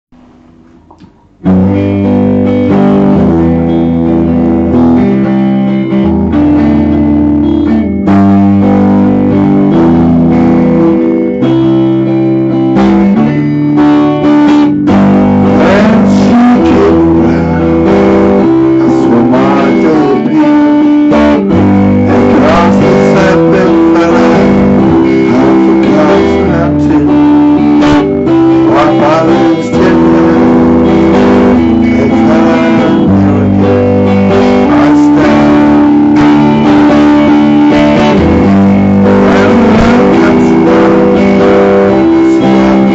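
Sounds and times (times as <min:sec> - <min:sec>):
loud guitar music: 0:00.1 - 0:42.9.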